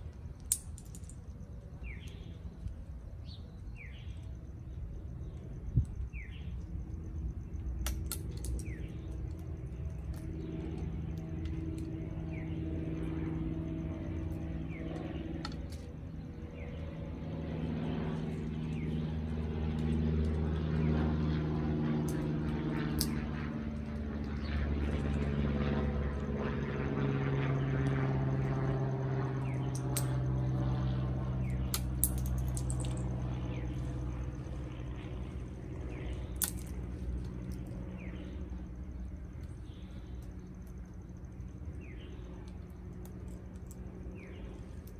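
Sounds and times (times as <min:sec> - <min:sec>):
low motor drone: 0:00.0 - 0:44.9.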